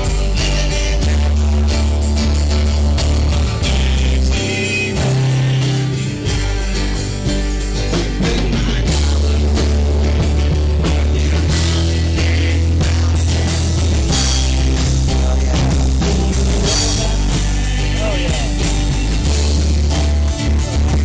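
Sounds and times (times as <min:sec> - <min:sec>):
drum kit: 0:00.0 - 0:21.0
electric guitars: 0:00.0 - 0:21.0
loud bass line: 0:00.0 - 0:21.0.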